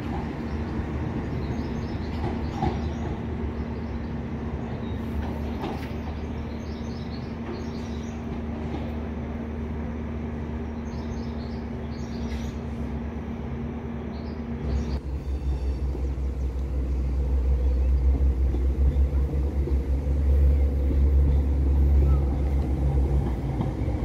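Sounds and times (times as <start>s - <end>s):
diesel locomotive deep rumble: 0.0s - 24.0s
diesel train engines rumbling: 0.0s - 24.0s
birds chirping: 0.2s - 9.1s, 10.4s - 12.8s, 13.6s - 24.0s.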